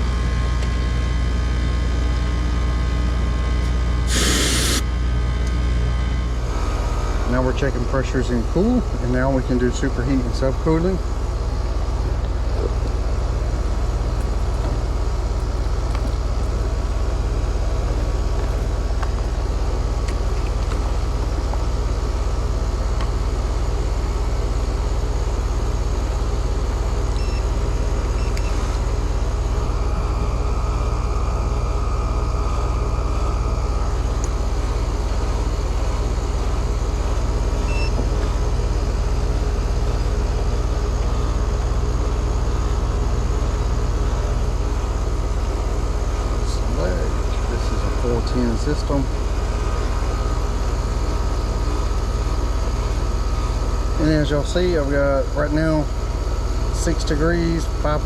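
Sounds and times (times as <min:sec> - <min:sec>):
heat pump low hum: 0:00.0 - 0:58.0.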